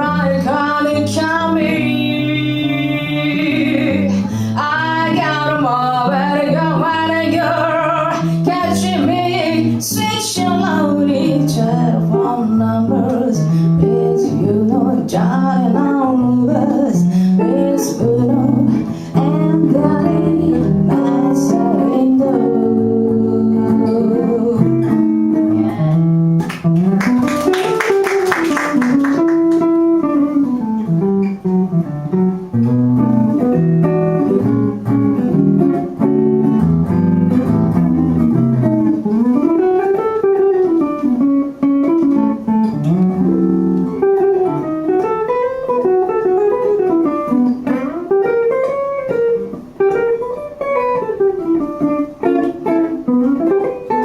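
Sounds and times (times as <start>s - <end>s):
jazz guitar solo: 0.0s - 54.0s.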